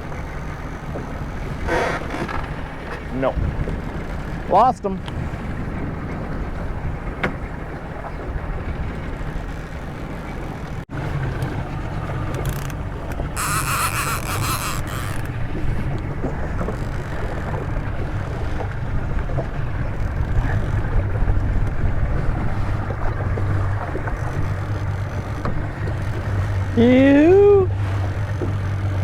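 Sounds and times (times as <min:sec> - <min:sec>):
motorboat engine hum: 0:00.0 - 0:29.0
water noise: 0:00.0 - 0:29.0
wind: 0:00.0 - 0:29.0.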